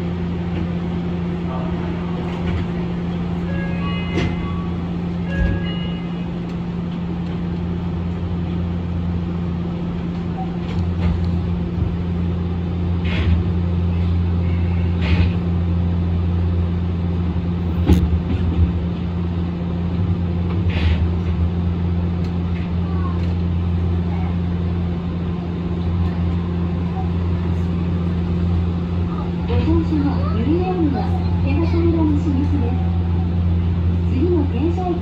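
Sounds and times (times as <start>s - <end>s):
electrical and mechanical hum: 0.0s - 35.0s.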